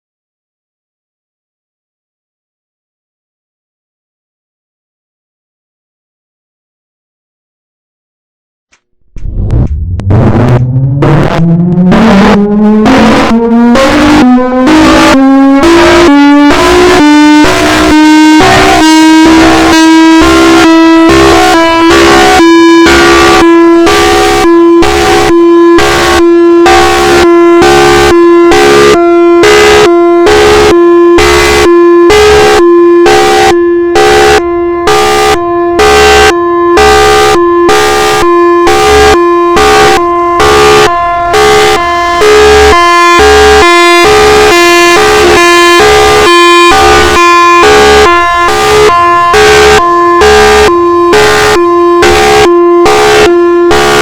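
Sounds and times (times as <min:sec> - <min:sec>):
loud pulsing warning siren: 0:08.9 - 0:54.0.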